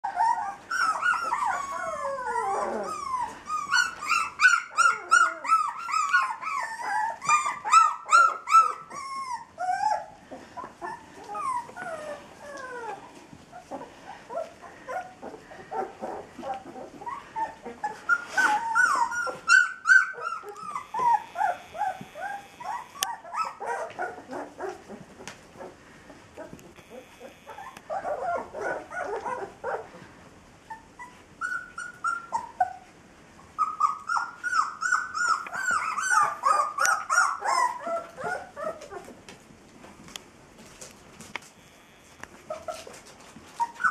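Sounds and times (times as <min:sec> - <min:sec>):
puppies whimpering and yipping: 0:00.0 - 0:30.0, 0:30.6 - 0:39.2, 0:42.4 - 0:43.9.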